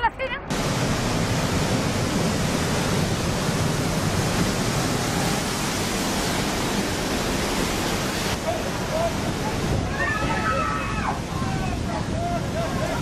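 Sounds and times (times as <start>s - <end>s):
storm waves crashing on seawall: 0.4s - 13.0s.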